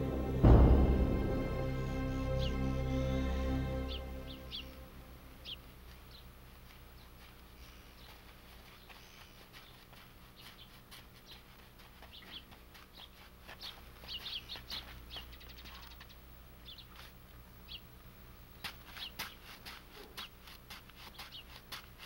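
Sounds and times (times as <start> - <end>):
low steady hum: 0.0 - 19.5
birds chirping faintly: 1.2 - 20.4, 21.1 - 22.0.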